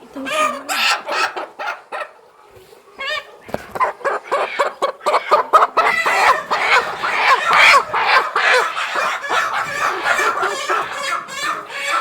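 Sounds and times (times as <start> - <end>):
hens clucking and calling: 0.0 - 12.0.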